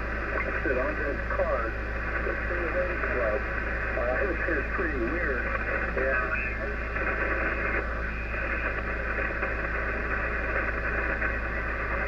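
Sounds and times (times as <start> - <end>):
radio static hiss: 0.0 - 12.0
steady low hum: 0.0 - 12.0.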